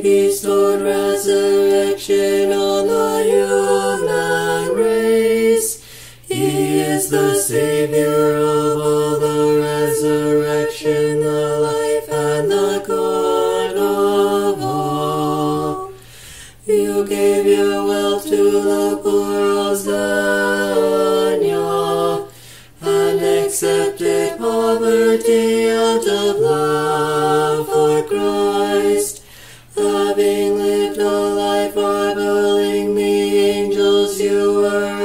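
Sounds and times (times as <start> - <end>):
choir singing a hymn in harmony: 0.0 - 35.0.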